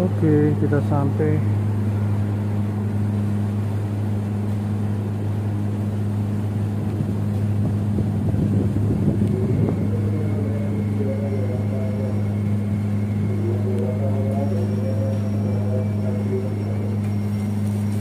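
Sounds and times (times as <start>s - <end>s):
electric train hum and rumble: 0.0s - 18.0s.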